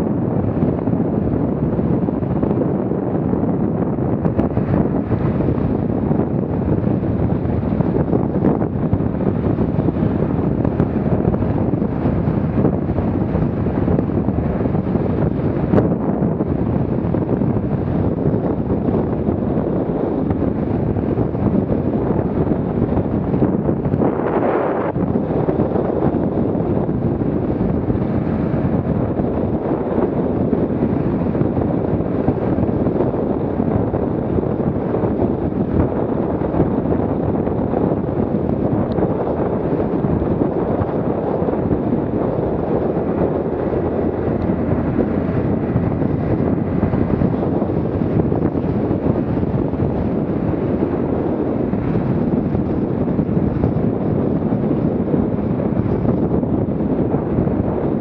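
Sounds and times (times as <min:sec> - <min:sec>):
boat motor: 0:00.0 - 0:58.0
water rushing along hull: 0:00.0 - 0:58.0
wind rushing over microphone: 0:00.0 - 0:58.0.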